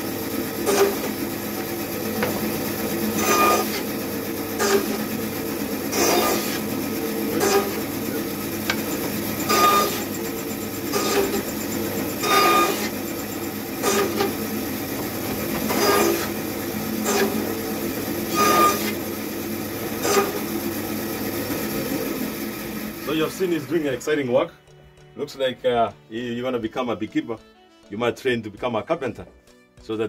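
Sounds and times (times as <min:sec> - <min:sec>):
woodworking machine running: 0:00.0 - 0:24.4
machine cutting wood: 0:00.0 - 0:25.5.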